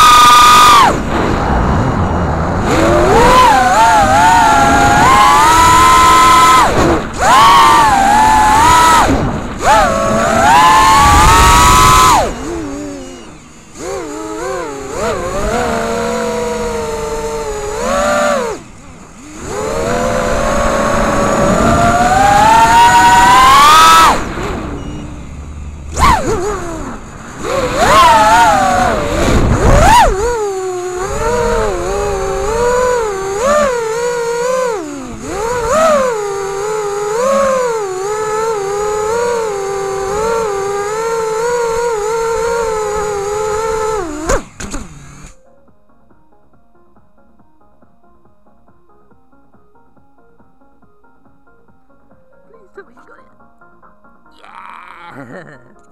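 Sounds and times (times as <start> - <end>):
quadcopter motors whining: 0.0 - 45.4.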